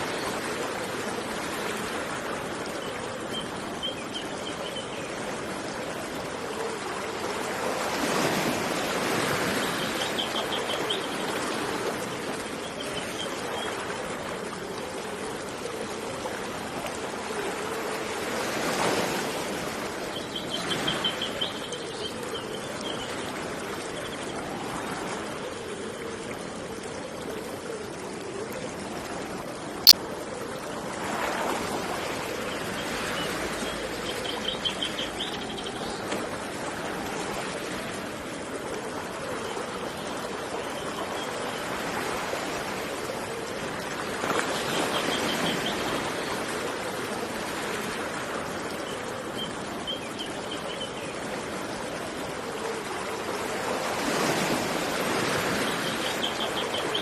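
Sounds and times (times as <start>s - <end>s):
stream flowing: 0.0s - 57.0s
surf: 0.0s - 57.0s.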